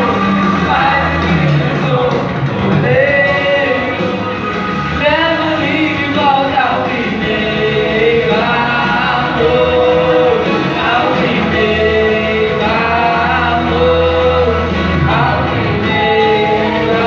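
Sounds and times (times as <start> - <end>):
group singing gospel song: 0.0 - 17.0.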